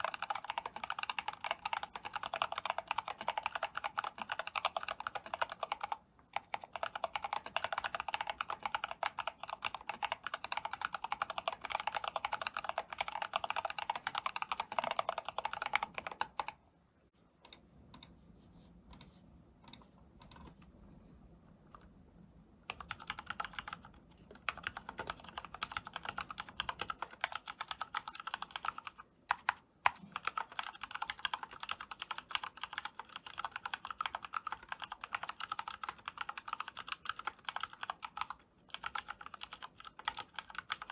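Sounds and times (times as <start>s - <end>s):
fast typing on mechanical keyboard: 0.0s - 16.6s, 22.6s - 40.9s.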